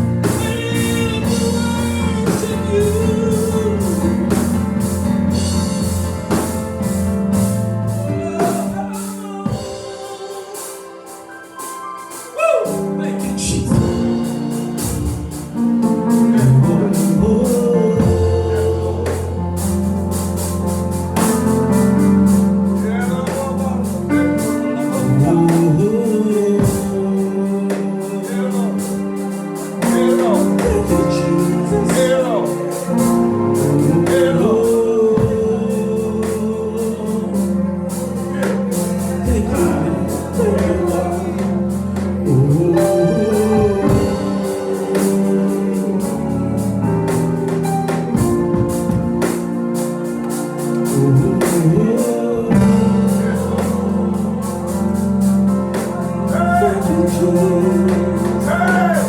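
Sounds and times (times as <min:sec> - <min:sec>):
gospel singing: 0:00.0 - 0:59.0
organ: 0:00.0 - 0:59.0
steady drum beat: 0:00.0 - 0:59.0.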